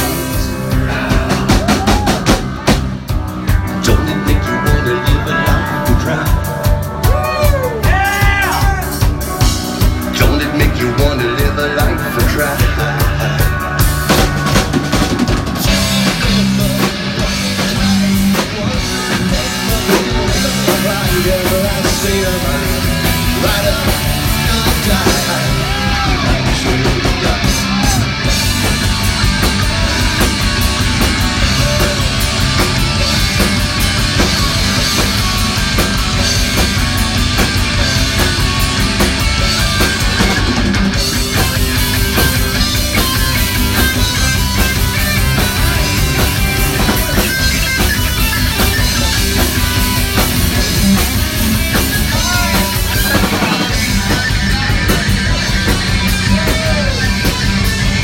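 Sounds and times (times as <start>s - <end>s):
bass guitar: 0.0s - 58.0s
distorted electric guitars: 0.0s - 58.0s
drum kit beat: 0.0s - 58.0s.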